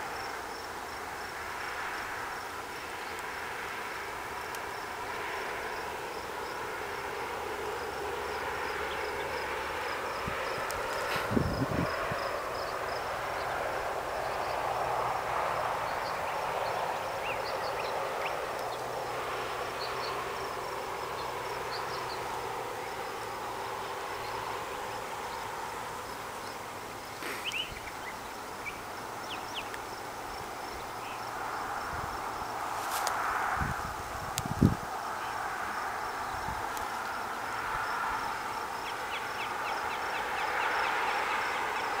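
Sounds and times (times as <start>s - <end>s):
insects chirping: 0.0s - 42.0s
steady rushing haze: 0.0s - 42.0s.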